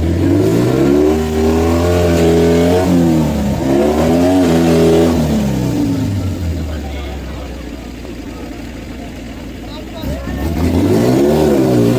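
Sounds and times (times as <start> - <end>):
buggy engine revving: 0.0 - 11.9.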